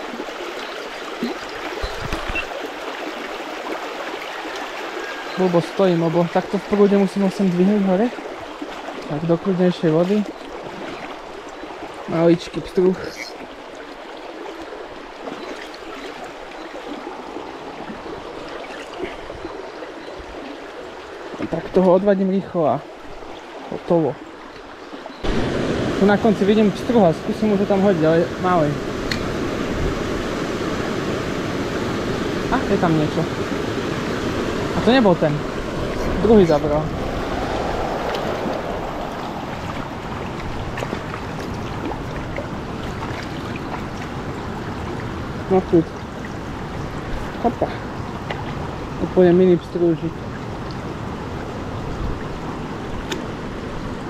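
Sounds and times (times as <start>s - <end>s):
brook flowing: 0.0s - 54.0s
stream water rushing: 0.0s - 54.0s.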